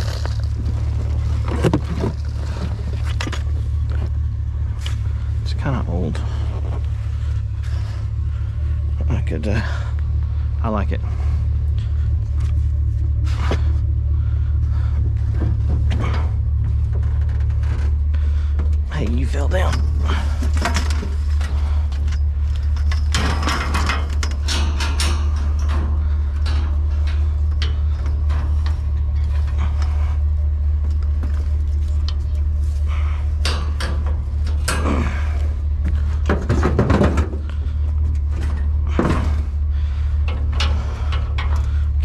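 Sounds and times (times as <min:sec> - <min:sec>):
low hum: 0:00.0 - 0:42.0
scrap metal clanking and rattling: 0:00.0 - 0:42.0.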